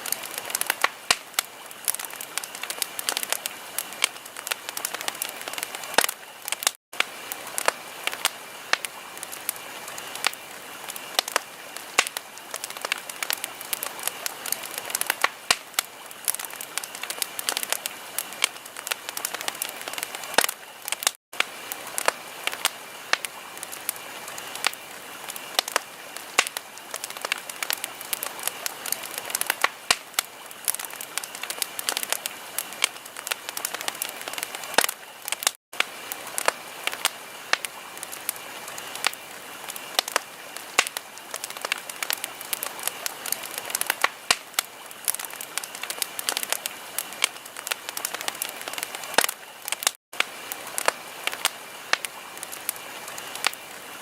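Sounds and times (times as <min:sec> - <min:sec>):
steady hiss: 0:00.0 - 0:54.0
wood fire crackling: 0:00.0 - 0:54.0.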